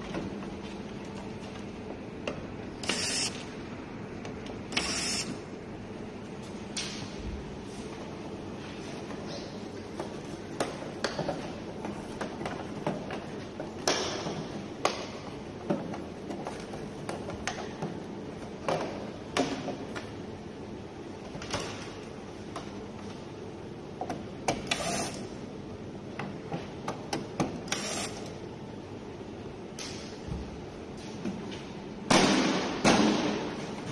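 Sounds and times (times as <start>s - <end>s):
steady background hum: 0.0s - 33.9s.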